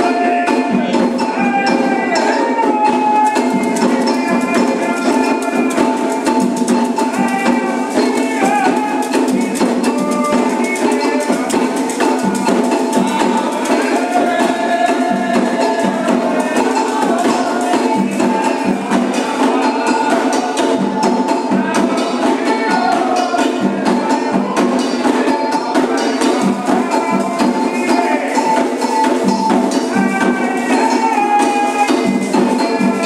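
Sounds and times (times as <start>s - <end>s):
bell rhythm: 0.0s - 33.0s
hand drums: 0.0s - 33.0s
voices singing: 0.0s - 33.0s.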